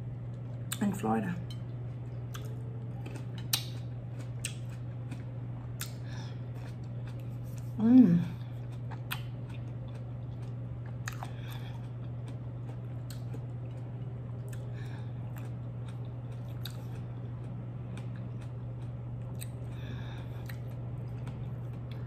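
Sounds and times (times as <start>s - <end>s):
steady low hum: 0.0s - 22.0s
chewing with wet smacks: 2.2s - 22.0s.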